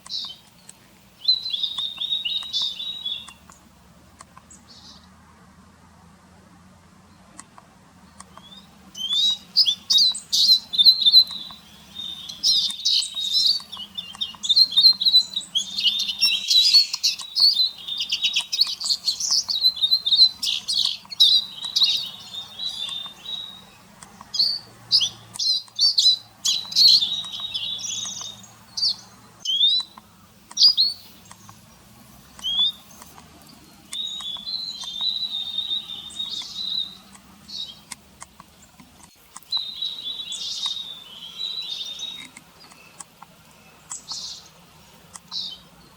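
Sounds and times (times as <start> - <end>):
songbird twittering: 0.0 - 5.1, 8.0 - 45.9.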